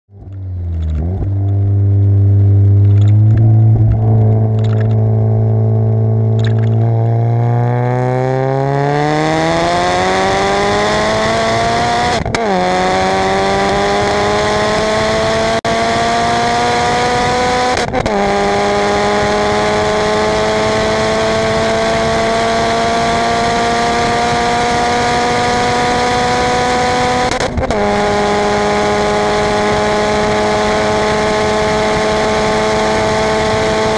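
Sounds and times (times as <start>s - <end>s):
car engine accelerating: 0.1s - 33.9s
wind and road noise: 0.1s - 33.9s.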